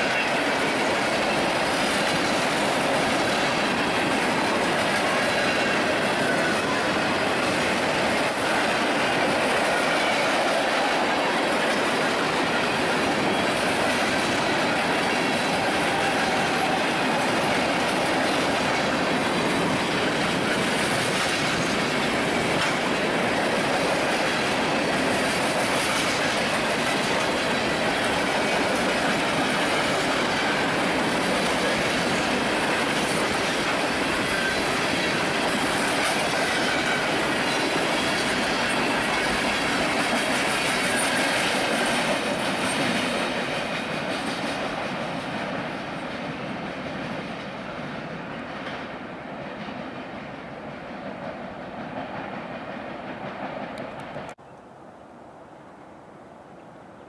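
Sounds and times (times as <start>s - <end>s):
train wheels rolling on rails: 0.0s - 54.4s.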